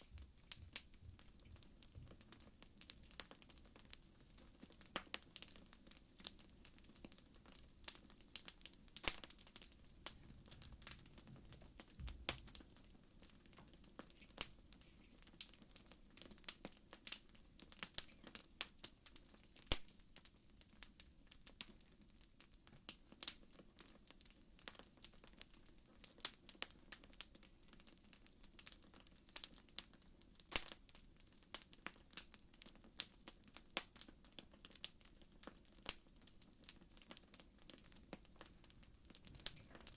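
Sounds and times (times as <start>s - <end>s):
campfire crackling and popping: 0.0s - 39.9s
soft low hiss: 0.0s - 39.9s.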